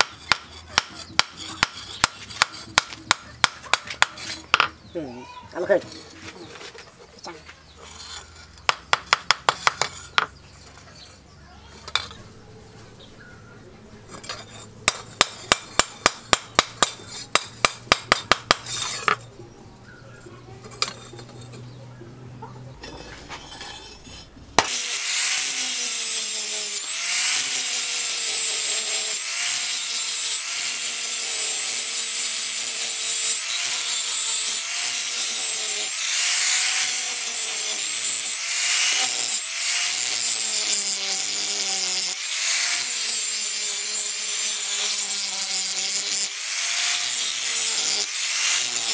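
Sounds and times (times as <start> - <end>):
angle grinder cutting steel: 0.0 - 4.8, 7.7 - 12.2, 14.1 - 19.3, 22.9 - 48.9.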